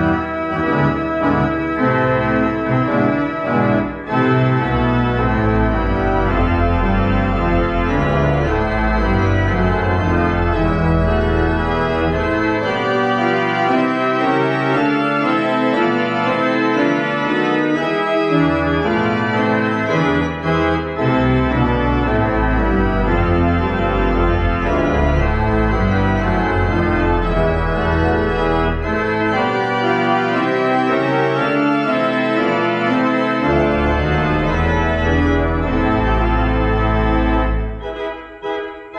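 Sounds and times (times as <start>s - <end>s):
deep organ pedal bass: 0.0s - 38.9s
organ chords: 0.0s - 38.9s.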